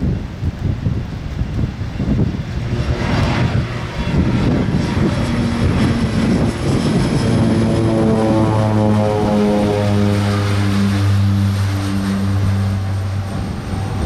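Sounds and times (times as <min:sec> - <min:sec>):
propeller plane engine drone: 0:00.0 - 0:14.0
pitched hum: 0:00.4 - 0:14.0.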